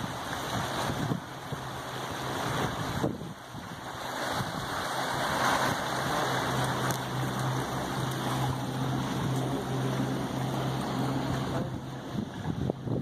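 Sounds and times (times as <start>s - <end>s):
low engine hum: 0.0s - 13.0s
water sloshing: 0.0s - 13.0s
wind on microphone: 0.0s - 13.0s.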